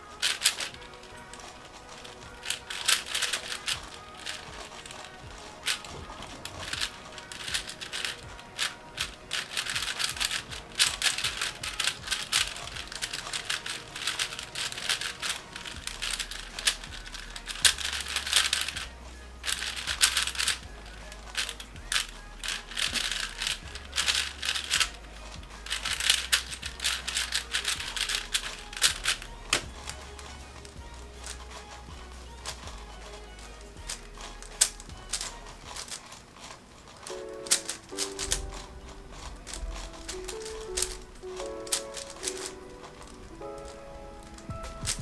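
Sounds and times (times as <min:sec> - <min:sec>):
background music with bass: 0:00.0 - 0:36.1, 0:37.4 - 0:45.0
speed cube clicking: 0:00.0 - 0:45.0.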